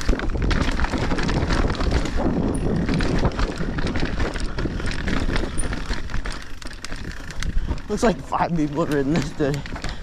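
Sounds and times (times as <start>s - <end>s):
bike rattling and knocking: 0.0s - 10.0s
bike tyres rolling over rock: 0.0s - 10.0s
wind buffeting microphone: 0.0s - 10.0s.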